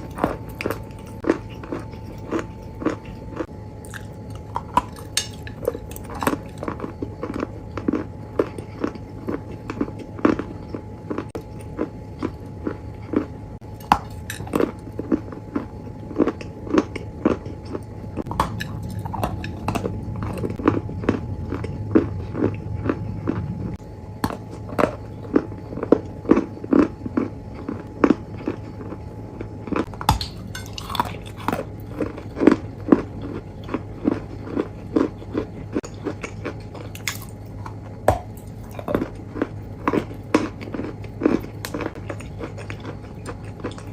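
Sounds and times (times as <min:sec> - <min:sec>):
crunchy chewing and biting: 0:00.0 - 0:43.9
steady low hum: 0:00.0 - 0:43.9.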